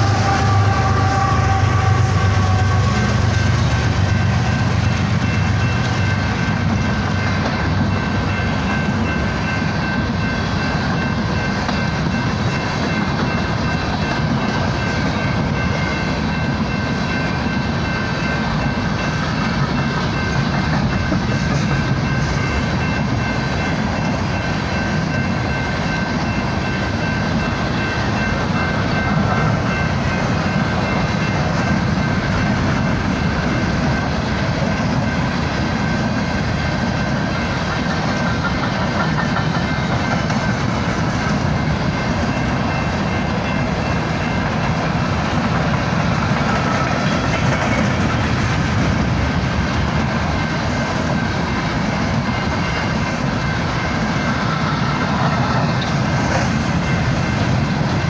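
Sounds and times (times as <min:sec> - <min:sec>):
freight train wheels rumbling on rails: 0:00.0 - 0:58.0.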